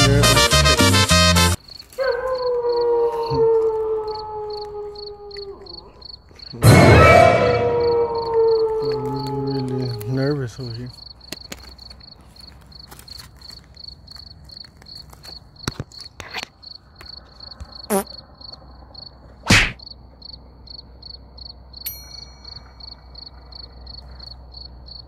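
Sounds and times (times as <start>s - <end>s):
cricket chirping: 1.6s - 25.0s.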